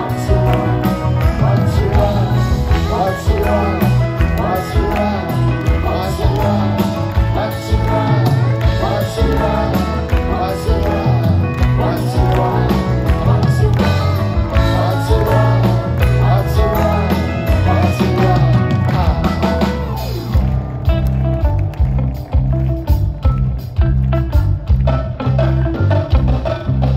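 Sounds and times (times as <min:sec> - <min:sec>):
live pop-rock band playing: 0:00.0 - 0:26.9.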